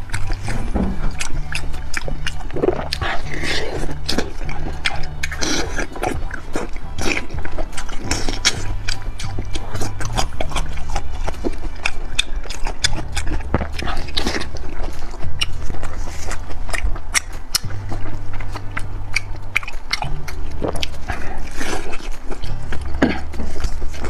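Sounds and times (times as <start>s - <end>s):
chewing meat with mouth clicks: 0.0s - 24.0s
low background music: 0.0s - 24.0s.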